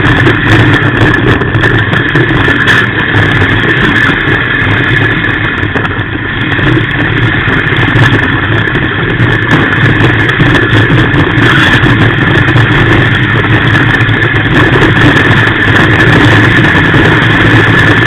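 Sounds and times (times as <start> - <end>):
race car engine running loud: 0.0 - 18.0.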